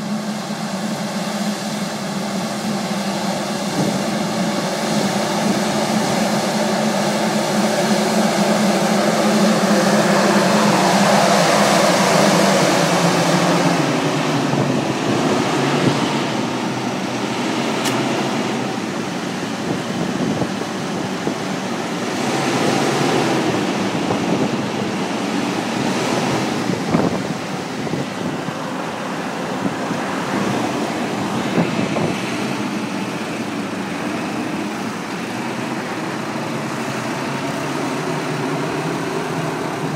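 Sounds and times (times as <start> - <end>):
tractor engine humming: 0.0 - 39.9
vacuum air rushing: 0.0 - 39.9.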